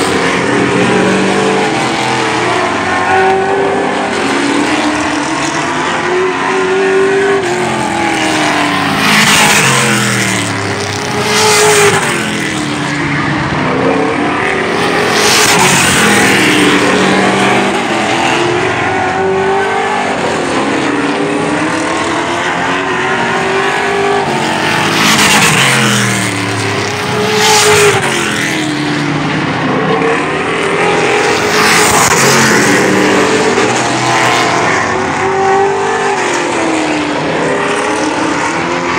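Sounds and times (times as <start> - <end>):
race car engines passing: 0.0 - 38.9.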